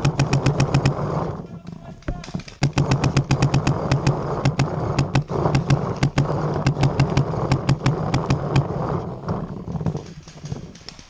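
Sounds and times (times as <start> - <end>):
paintball markers firing: 0.0 - 11.0.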